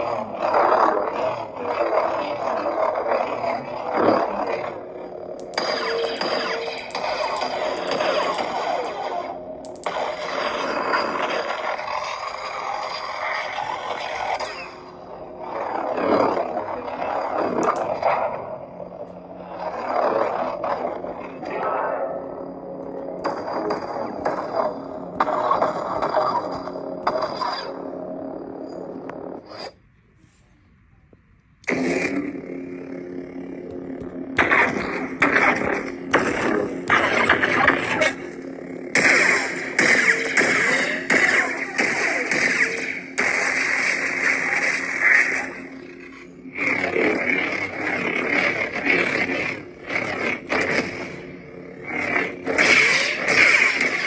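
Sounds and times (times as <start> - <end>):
lightsaber crack: 0.0 - 28.2, 31.6 - 54.0.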